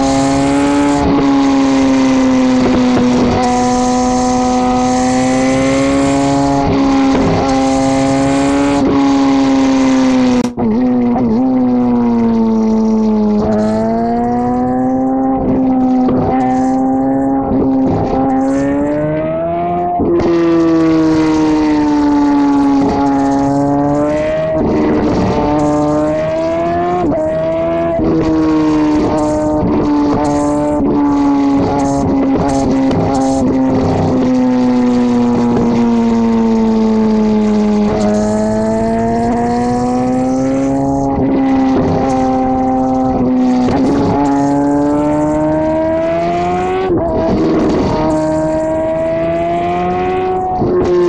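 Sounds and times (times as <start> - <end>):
motorcycle exhaust note: 0.0 - 51.0.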